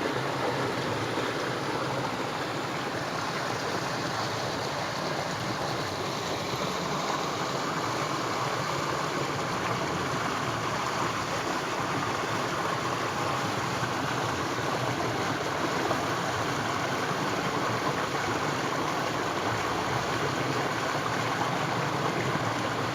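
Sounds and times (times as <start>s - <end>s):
flowing water rushing: 0.0s - 22.9s.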